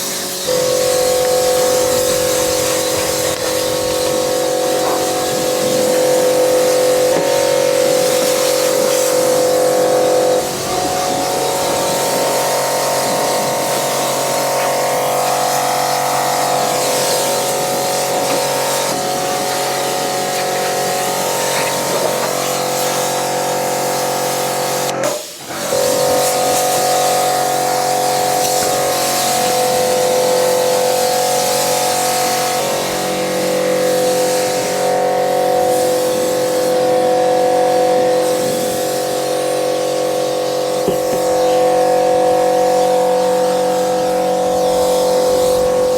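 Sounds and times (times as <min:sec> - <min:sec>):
hiss of water spray: 0:00.0 - 0:45.9
pressure washer motor whine: 0:00.0 - 0:45.9.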